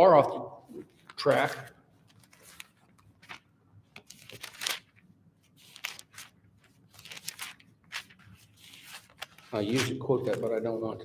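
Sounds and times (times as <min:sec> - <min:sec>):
paper rustling and crinkling: 0:00.9 - 0:10.8.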